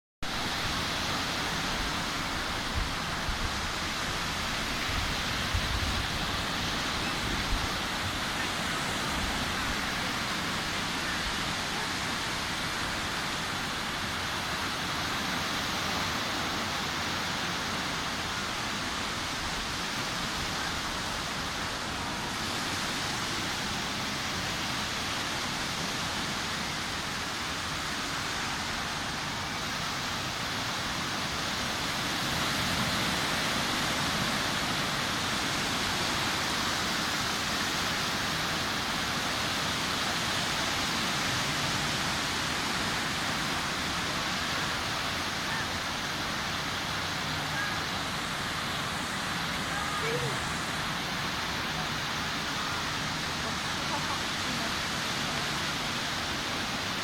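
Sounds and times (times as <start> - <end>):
sea waves washing onto beach: 0.2 - 57.0.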